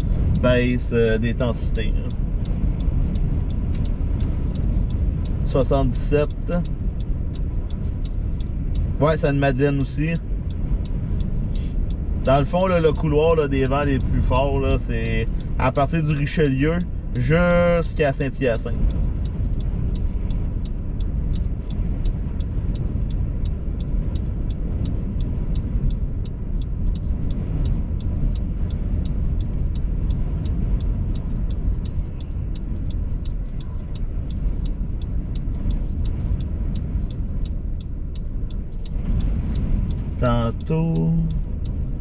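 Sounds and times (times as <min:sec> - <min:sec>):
faint regular ticking: 0:00.0 - 0:42.0
wind buffeting car: 0:00.0 - 0:42.0.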